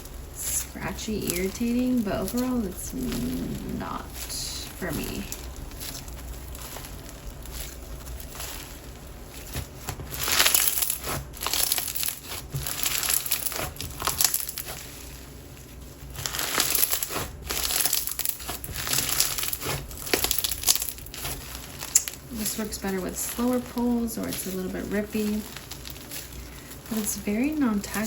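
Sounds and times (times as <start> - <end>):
slime crinkling and crackling: 0.0 - 28.0.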